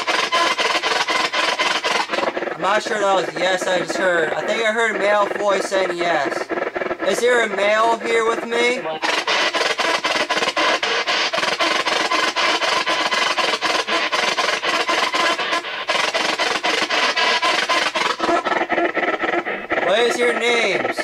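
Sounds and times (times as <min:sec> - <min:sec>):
pulsing radio static: 0:00.0 - 0:21.0.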